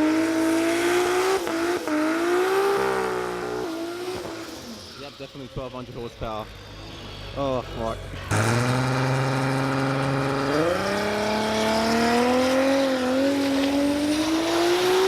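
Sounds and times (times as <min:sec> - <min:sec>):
drag racer engine at full throttle: 0:00.0 - 0:15.0.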